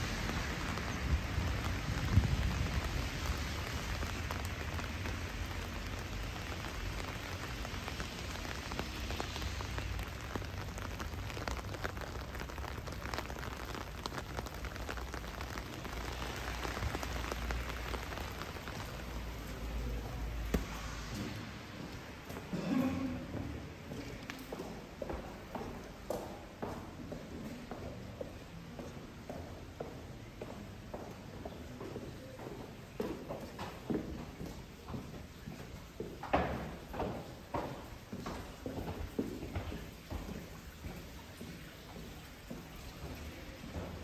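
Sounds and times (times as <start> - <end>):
heavy rain falling: 0.0 - 26.7, 31.2 - 44.0.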